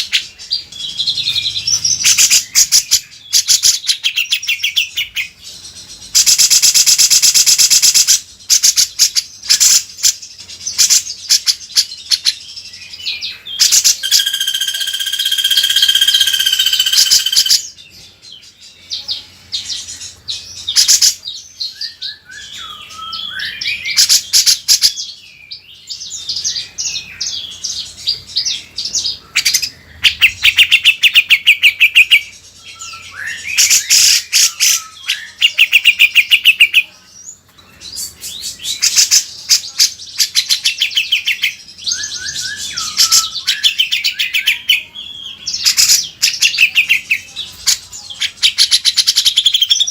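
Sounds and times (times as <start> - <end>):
bird singing: 0.0 - 49.9.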